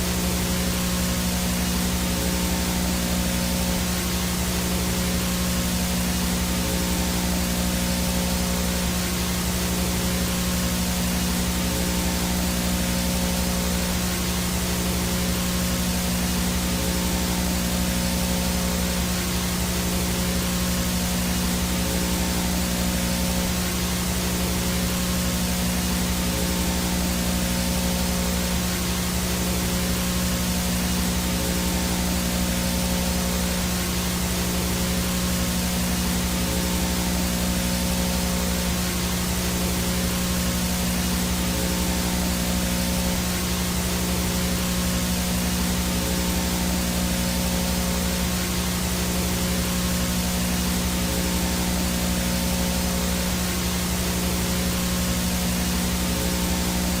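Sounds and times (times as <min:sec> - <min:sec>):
low electrical buzz: 0:00.0 - 0:57.0
static hiss: 0:00.0 - 0:57.0.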